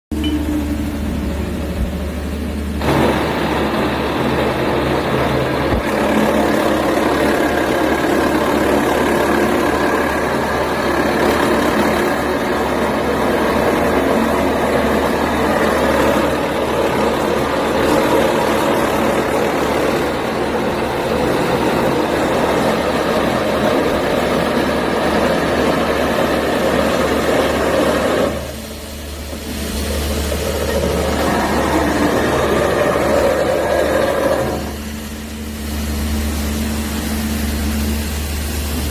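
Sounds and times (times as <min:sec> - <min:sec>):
low engine hum: 0:00.1 - 0:38.9.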